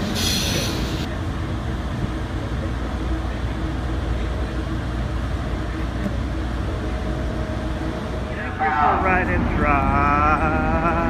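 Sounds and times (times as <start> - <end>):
trains rumbling past: 0.0 - 11.0.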